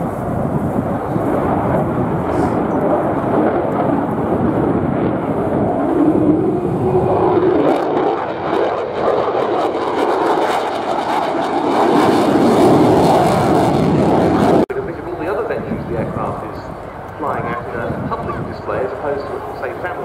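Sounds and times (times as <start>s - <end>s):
fighter jet engine roar: 0.0s - 20.0s.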